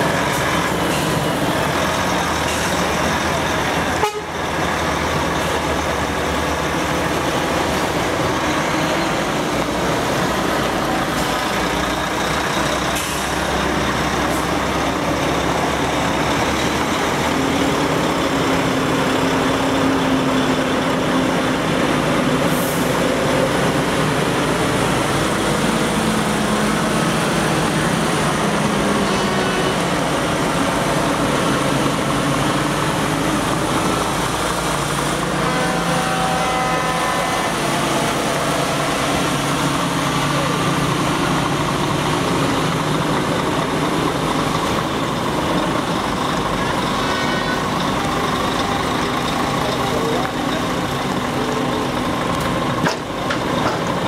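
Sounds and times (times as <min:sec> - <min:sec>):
diesel lorries driving past: 0:00.0 - 0:54.0.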